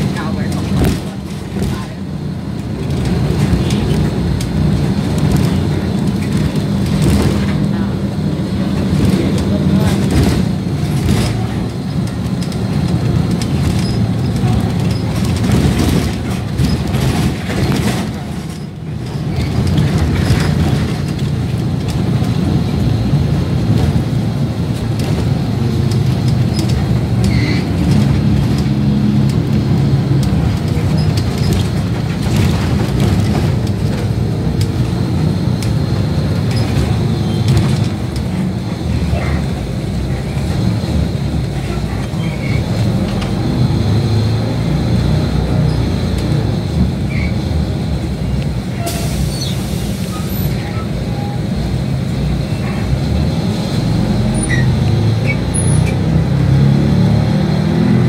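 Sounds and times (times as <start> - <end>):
bus engine rumble: 0.0 - 58.0
road noise: 0.0 - 58.0.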